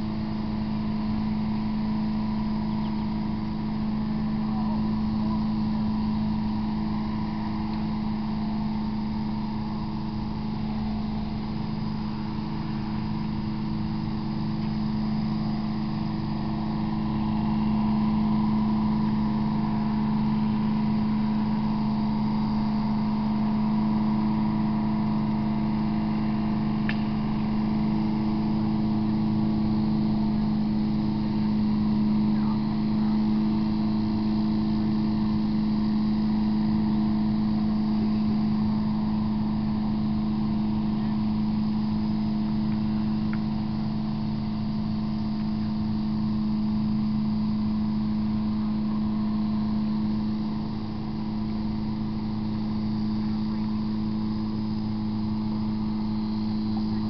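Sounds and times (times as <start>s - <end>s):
mechanical hum with low rumble: 0.0s - 57.0s.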